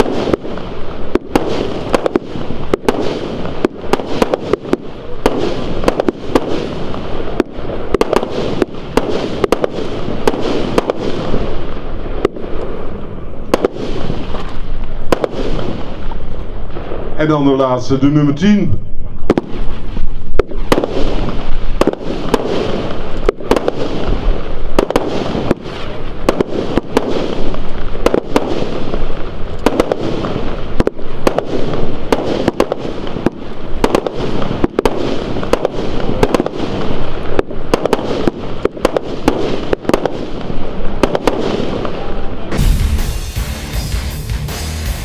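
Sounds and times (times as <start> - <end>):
firework launch shots and bursts: 0.0 - 17.8, 19.1 - 43.4.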